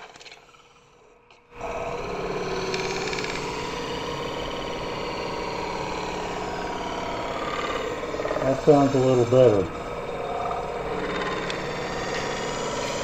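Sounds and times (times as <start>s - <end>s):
buzzing chatter of tool on metal: 0.0s - 13.0s
metal spinning on a lathe: 0.0s - 13.0s.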